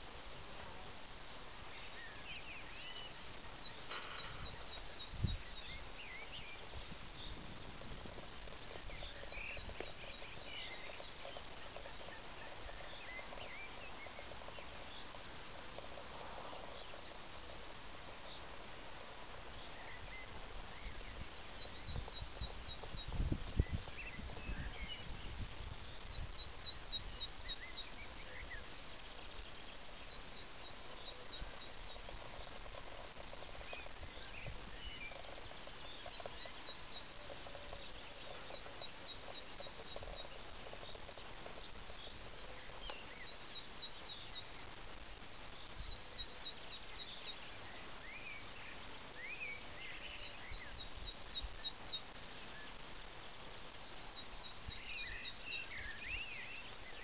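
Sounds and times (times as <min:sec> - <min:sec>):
songbirds singing: 0:00.0 - 0:57.0
steady outdoor hiss: 0:00.0 - 0:57.0
low wind rumble on microphone: 0:00.1 - 0:46.1.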